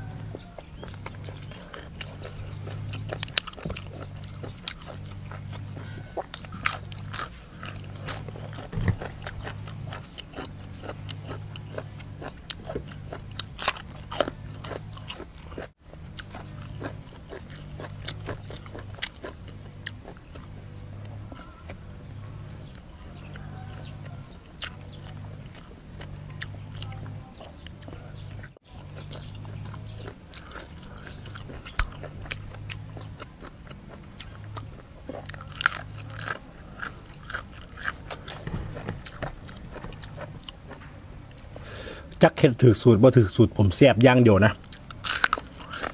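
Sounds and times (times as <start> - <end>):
low hum: 0.0 - 43.8
crunchy chewing: 0.0 - 45.9.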